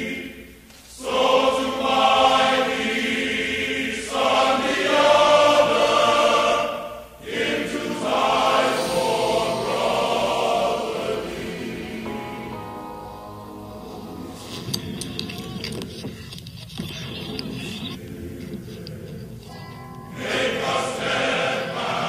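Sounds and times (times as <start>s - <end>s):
choir singing held chords: 0.0s - 15.9s, 17.9s - 22.0s.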